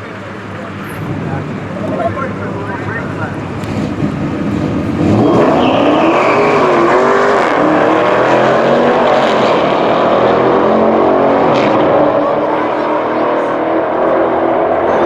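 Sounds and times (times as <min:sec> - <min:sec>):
drag racing engines at full throttle: 0:00.0 - 0:15.0.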